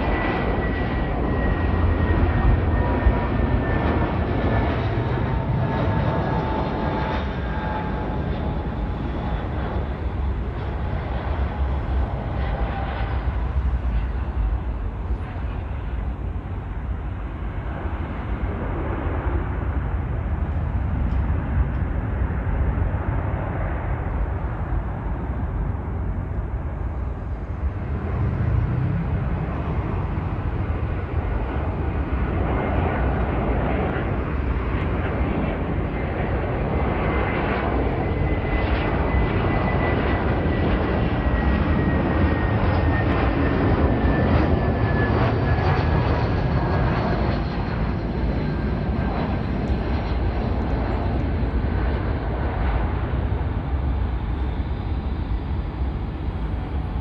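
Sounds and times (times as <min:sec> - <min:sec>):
jet engine roar and whine: 0:00.0 - 0:57.0.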